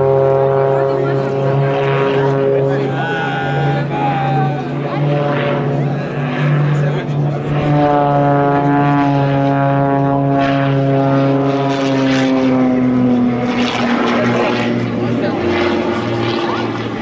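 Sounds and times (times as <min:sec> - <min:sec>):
propeller planes droning: 0:00.0 - 0:17.0.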